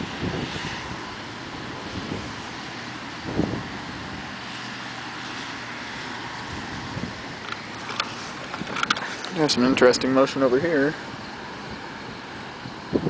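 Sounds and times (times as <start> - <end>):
low wind buffet: 0.0 - 13.0
wind rushing over microphone: 0.0 - 13.0.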